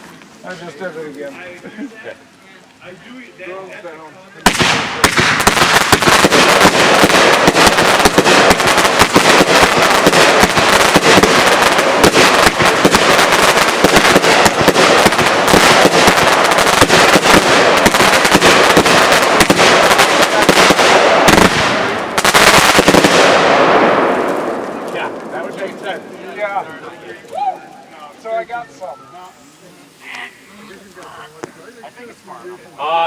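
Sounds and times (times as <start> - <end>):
fireworks crackling pops: 0.0 - 3.0, 3.7 - 32.8.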